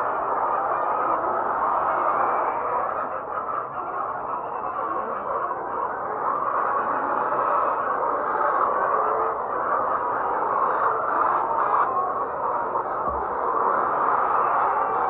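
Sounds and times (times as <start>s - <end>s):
flock of hens clucking: 0.0s - 15.0s.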